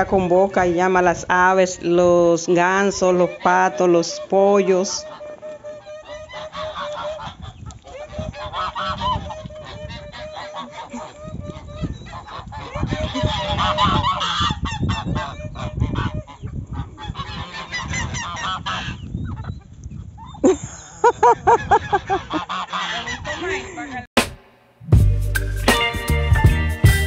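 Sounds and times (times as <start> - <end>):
geese honking: 0.0 - 19.5, 21.1 - 23.8.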